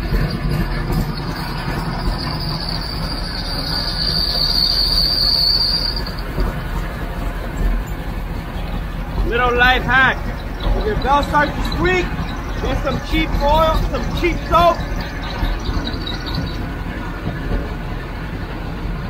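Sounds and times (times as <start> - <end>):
car engine running: 0.0 - 19.0
drive belt squealing: 0.0 - 19.0.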